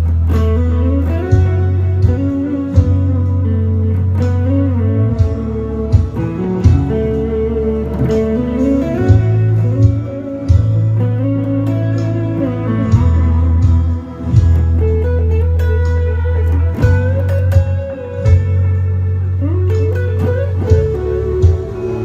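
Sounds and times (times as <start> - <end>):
electric guitar melody: 0.0 - 22.0
percussive beat: 0.0 - 22.0
sustained low bass notes: 0.0 - 22.0.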